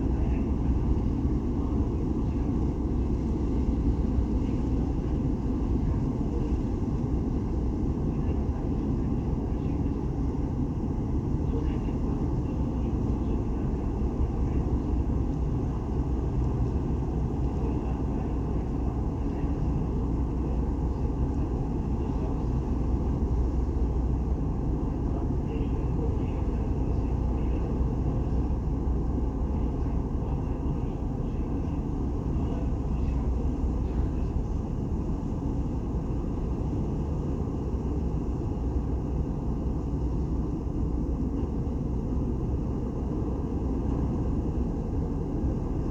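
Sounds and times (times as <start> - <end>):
ship engines rumbling: 0.0 - 45.9.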